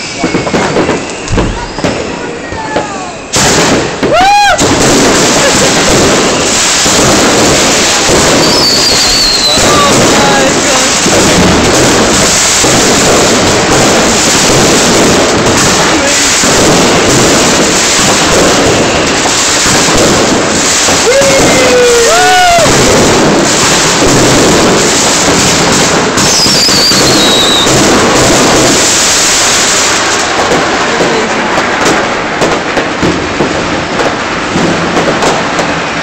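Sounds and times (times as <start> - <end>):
fireworks bursting and crackling: 0.0 - 36.0
fireworks whistling: 0.0 - 36.0.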